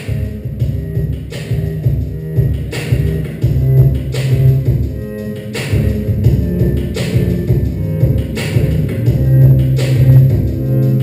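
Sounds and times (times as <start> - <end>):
music with deep bass and beat: 0.0 - 11.0.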